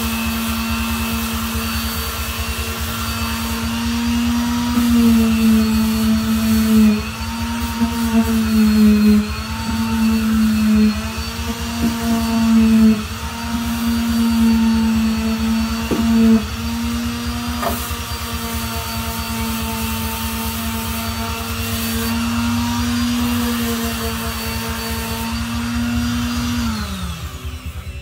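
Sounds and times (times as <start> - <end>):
electric power tool running: 0.0 - 28.0.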